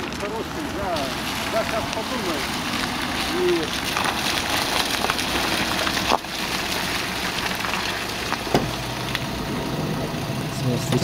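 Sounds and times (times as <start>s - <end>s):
tyres on wet gravel road: 0.0s - 11.0s.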